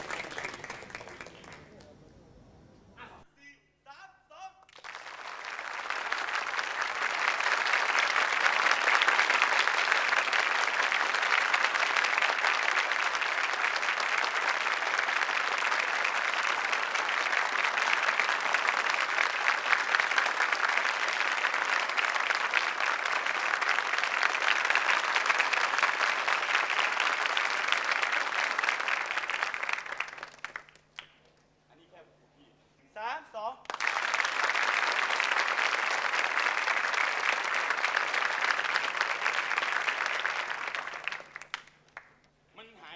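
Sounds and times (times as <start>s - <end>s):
crowd clapping: 0.0s - 2.0s, 4.7s - 31.4s, 33.6s - 42.3s.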